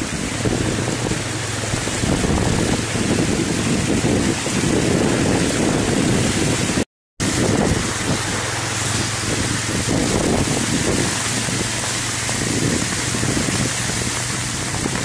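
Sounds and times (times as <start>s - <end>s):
water rushing and splashing: 0.0s - 15.0s
wind buffeting microphone: 0.0s - 15.0s.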